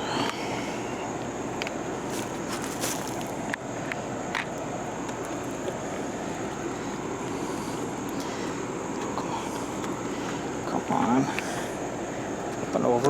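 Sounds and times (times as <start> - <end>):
lawnmower engine running: 0.0 - 12.8.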